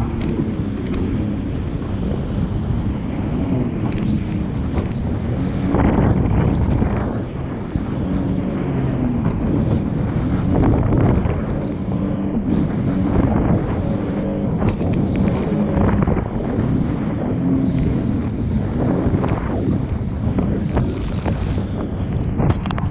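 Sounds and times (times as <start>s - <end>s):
jet ski engine running: 0.0s - 22.9s
water splashing: 0.0s - 22.9s
wind buffeting microphone: 0.0s - 22.9s.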